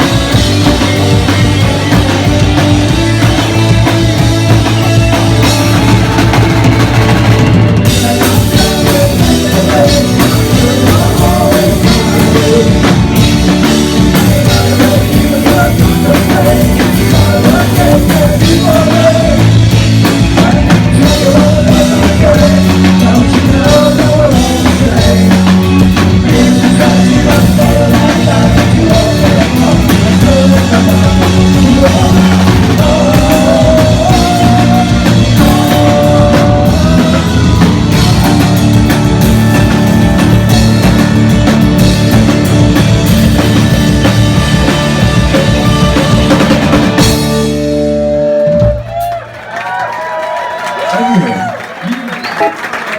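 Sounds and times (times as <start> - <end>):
live rock band playing: 0.0 - 49.8, 52.1 - 52.9.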